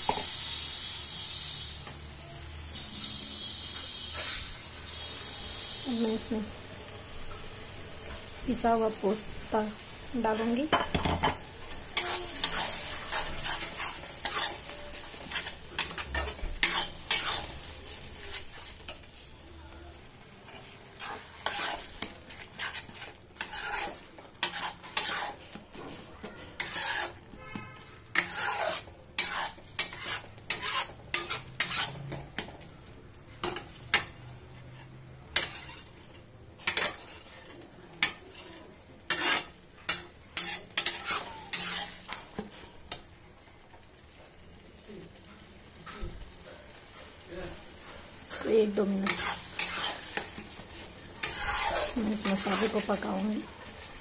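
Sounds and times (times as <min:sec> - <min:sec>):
steel spatula scraping a wok: 0:00.0 - 0:06.4, 0:10.1 - 0:19.5, 0:20.1 - 0:43.0, 0:45.8 - 0:54.0
paste sizzling in hot oil: 0:00.0 - 0:54.0.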